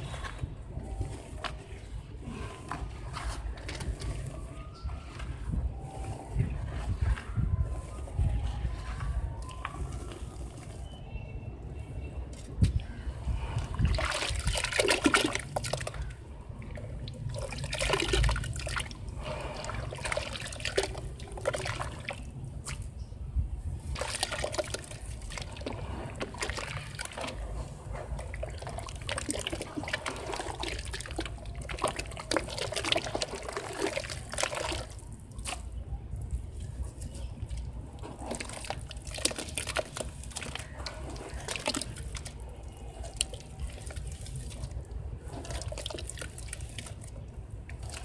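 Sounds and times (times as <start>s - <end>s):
hands squelching wet sand: 0.0s - 23.1s, 23.7s - 48.0s.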